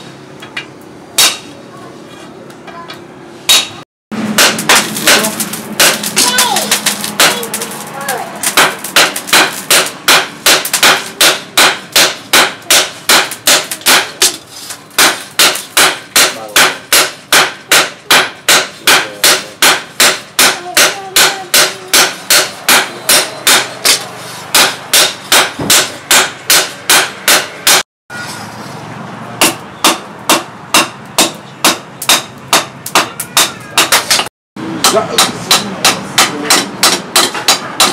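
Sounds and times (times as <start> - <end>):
hammer striking blade on anvil: 0.4 - 1.5, 3.5 - 7.7, 8.4 - 14.4, 15.0 - 27.8, 29.4 - 37.9.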